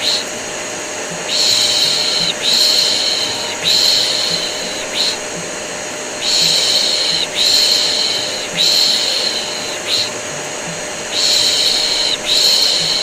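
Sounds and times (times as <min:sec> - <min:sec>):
vacuum cleaner drone: 0:00.0 - 0:13.0
person shushing: 0:01.1 - 0:13.0.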